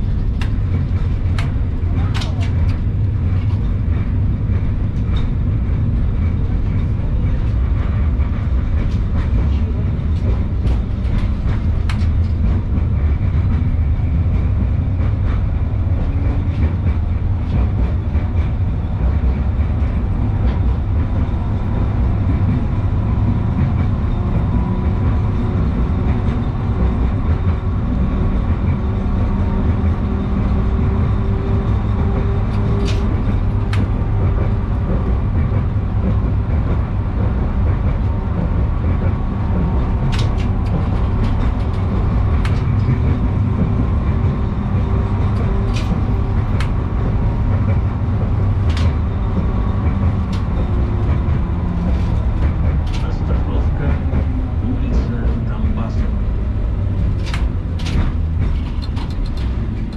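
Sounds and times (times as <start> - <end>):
tram wheels rumbling on rail: 0.0 - 59.9.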